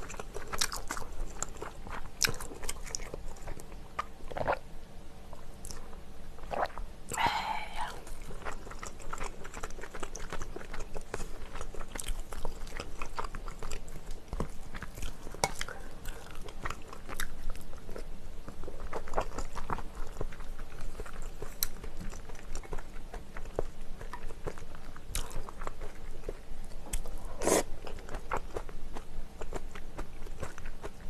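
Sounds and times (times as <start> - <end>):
chewing and crunching food: 0.0 - 4.6, 5.3 - 31.0.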